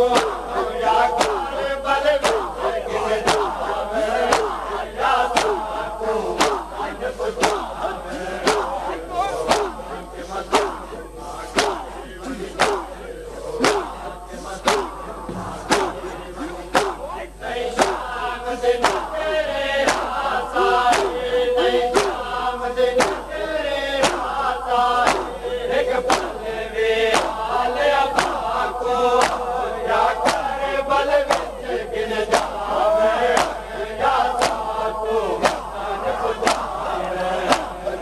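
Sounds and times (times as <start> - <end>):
crowd beating chests: 0.0 - 38.0
men chanting in unison: 0.0 - 38.0.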